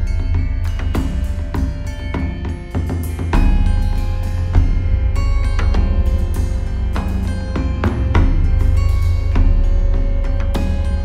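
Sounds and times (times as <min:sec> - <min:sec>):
music with heavy bass and drums: 0:00.0 - 0:11.0.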